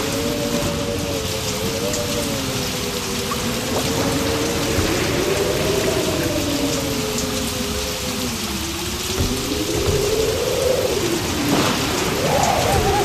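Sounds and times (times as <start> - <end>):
heavy rain: 0.0 - 13.0
low drone of wavering tones: 0.0 - 13.0.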